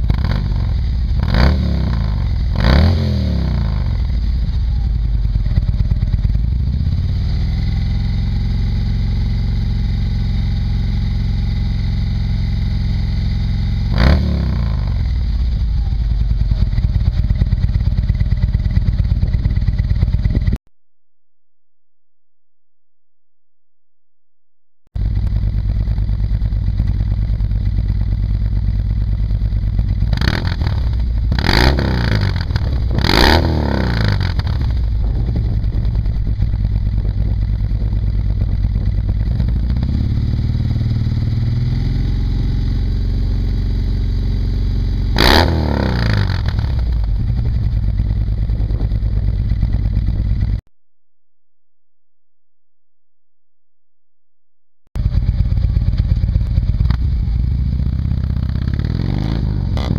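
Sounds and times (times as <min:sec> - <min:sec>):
motorcycle engine revving: 0:00.0 - 0:20.6, 0:25.0 - 0:50.6, 0:55.0 - 0:59.9.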